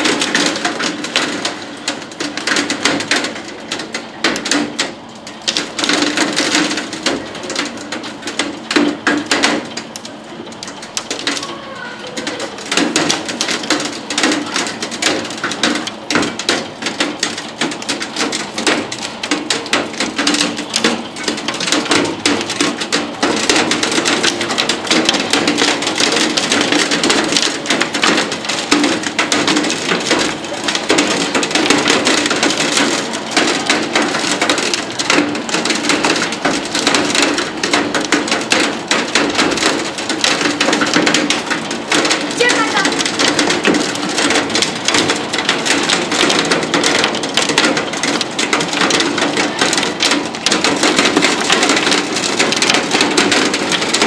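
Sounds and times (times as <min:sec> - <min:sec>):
rain and hail pelting a window: 0:00.0 - 0:54.0.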